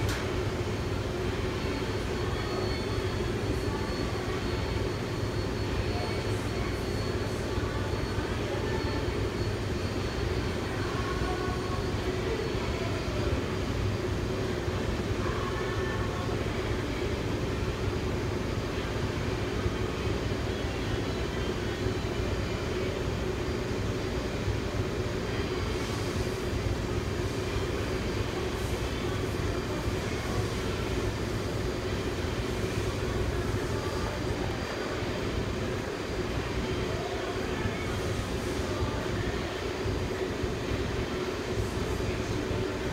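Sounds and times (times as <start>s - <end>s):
shop machinery droning: 0.0s - 42.9s.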